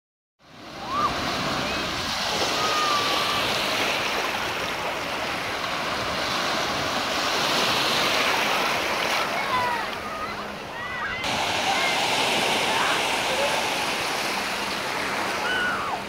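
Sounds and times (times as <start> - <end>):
sea surf washing ashore: 0.4 - 16.0.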